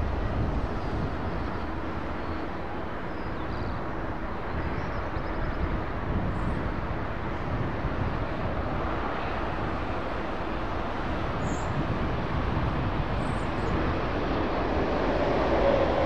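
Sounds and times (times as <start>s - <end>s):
airliner jet rumble: 0.0s - 16.0s.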